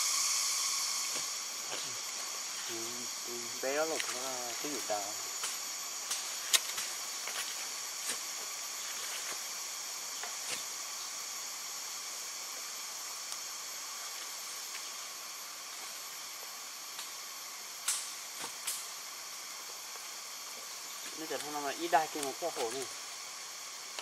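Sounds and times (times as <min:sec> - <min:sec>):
forest insects droning: 0:00.0 - 0:24.0.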